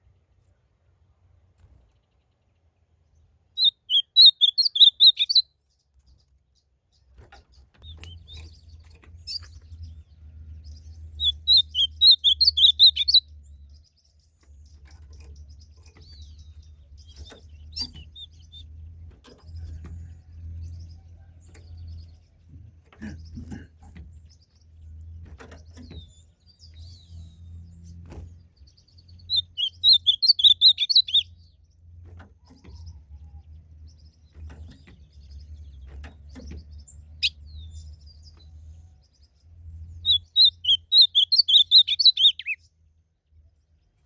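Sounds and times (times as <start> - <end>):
bird singing warbled phrases: 1.8 - 44.0.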